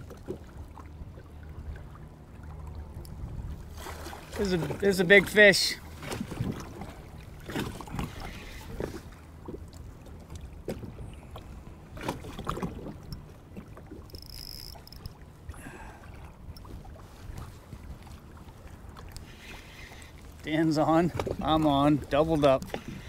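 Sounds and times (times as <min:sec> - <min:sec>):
water lapping against hull: 0:00.0 - 0:23.0
wind: 0:00.0 - 0:23.0.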